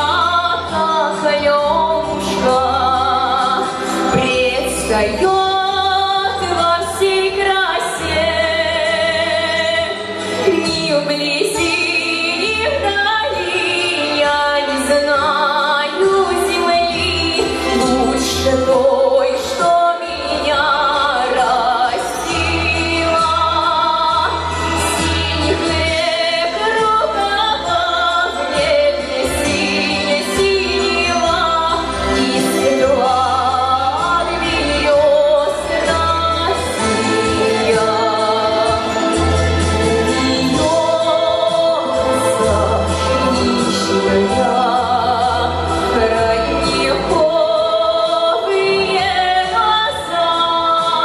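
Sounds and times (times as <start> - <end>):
instrumental backing with bass: 0.0 - 51.0
woman singing with vibrato: 0.0 - 51.0.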